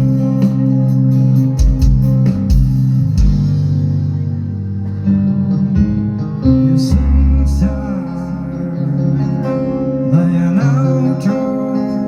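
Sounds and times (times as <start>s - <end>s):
guitar: 0.0s - 12.0s
live band through pa: 0.0s - 12.0s
sustained bass notes: 0.0s - 12.0s.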